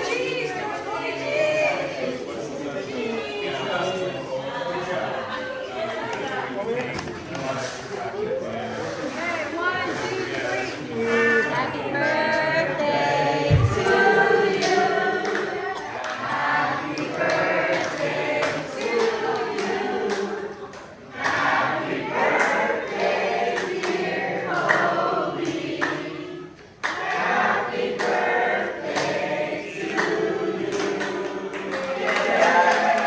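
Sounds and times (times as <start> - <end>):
group singing a cappella: 0.0 - 6.0, 8.8 - 33.0.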